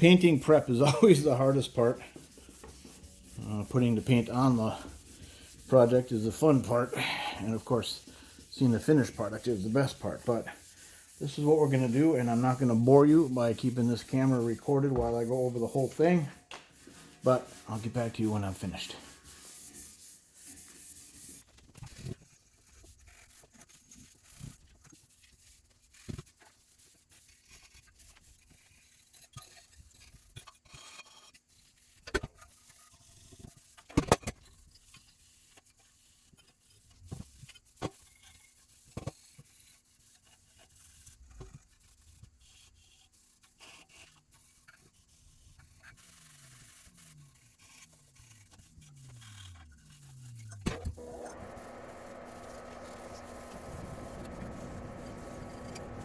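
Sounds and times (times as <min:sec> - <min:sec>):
scuff pad rubbing on metal frame: 0:00.0 - 0:30.2, 0:34.9 - 0:56.0.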